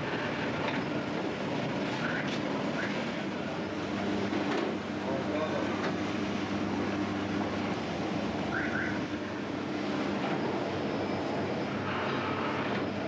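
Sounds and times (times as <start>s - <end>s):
bakery machinery humming: 0.0s - 13.0s.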